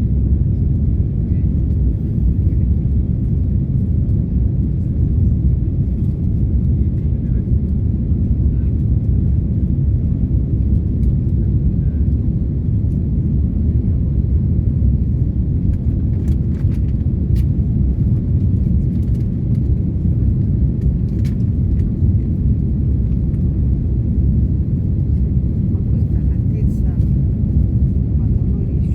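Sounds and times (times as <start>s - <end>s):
jet engine rumble in cabin: 0.0s - 28.9s.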